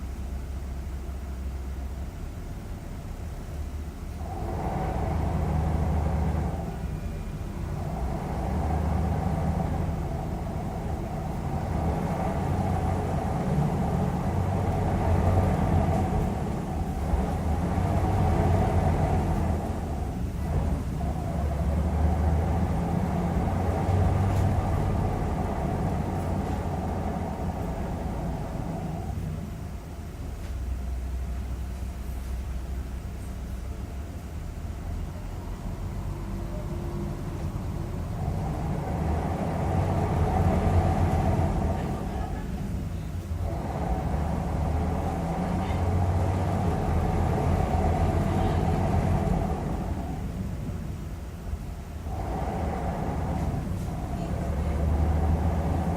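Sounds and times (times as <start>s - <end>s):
bus engine rumble: 0.0s - 55.9s.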